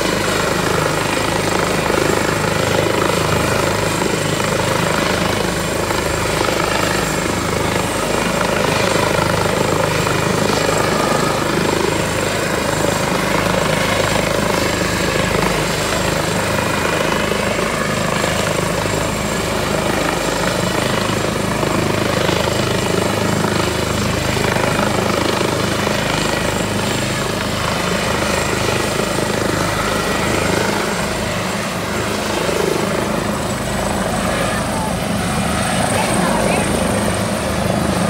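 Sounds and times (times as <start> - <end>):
helicopter engines and rotor hum: 0.0 - 38.0.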